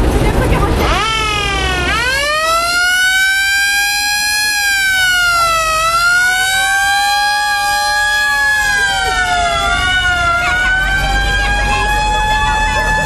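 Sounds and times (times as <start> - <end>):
mechanical siren wailing: 0.8 - 13.0.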